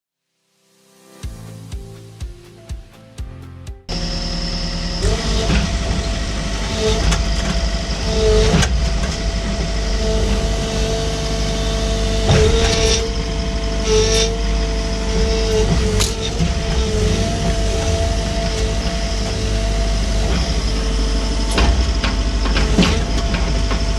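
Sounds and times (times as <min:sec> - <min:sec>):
excavator diesel engine running: 0:03.9 - 0:23.9
steady whine: 0:03.9 - 0:23.9.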